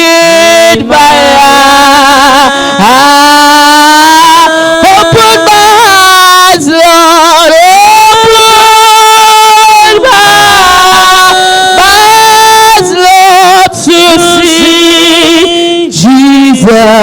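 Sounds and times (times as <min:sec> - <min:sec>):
worship singing with vibrato: 0:00.0 - 0:17.0.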